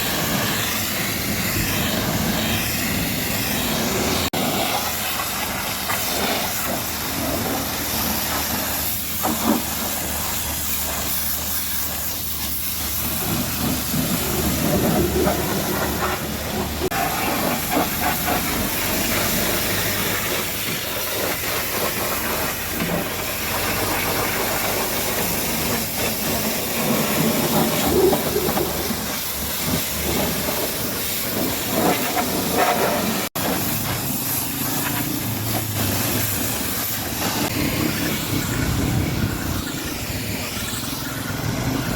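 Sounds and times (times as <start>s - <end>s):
pressure washer jet hissing: 0.0s - 41.9s.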